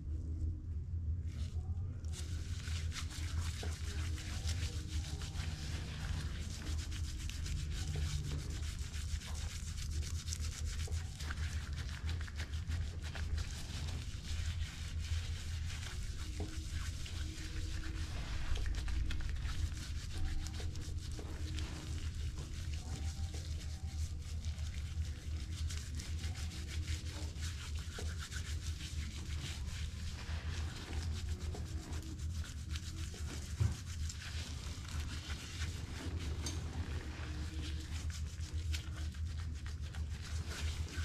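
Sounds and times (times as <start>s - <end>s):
steady low hum: 0.0s - 41.0s
scratchy scrubbing on skin: 1.2s - 41.0s.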